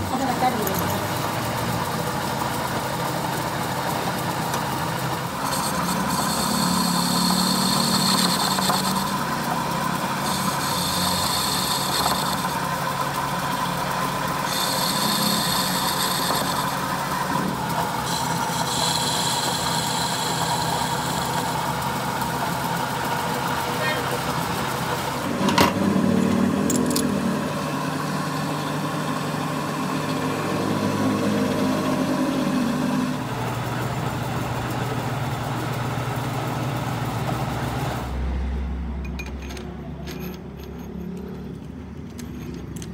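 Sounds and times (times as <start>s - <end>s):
lathe machine drone: 0.0s - 38.4s.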